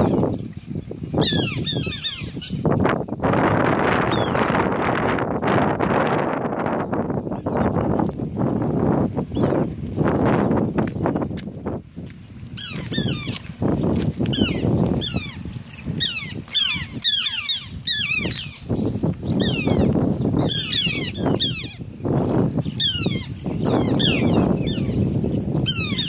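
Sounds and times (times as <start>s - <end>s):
birds chirping: 0.0s - 11.4s, 12.6s - 26.0s.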